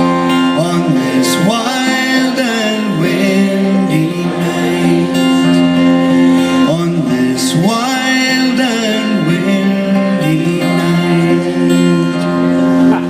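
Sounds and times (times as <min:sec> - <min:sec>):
voices singing: 0:00.0 - 0:12.3
acoustic guitar strummed: 0:00.0 - 0:13.0.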